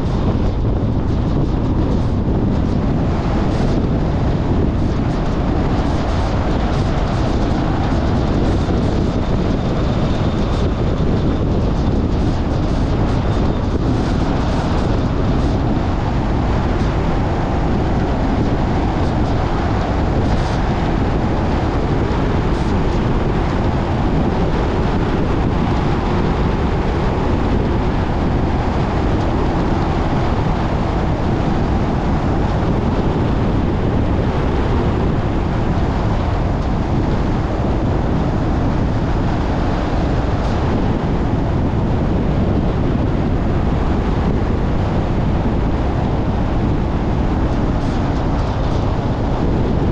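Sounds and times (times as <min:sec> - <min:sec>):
car road and wind noise: 0:00.0 - 0:49.9.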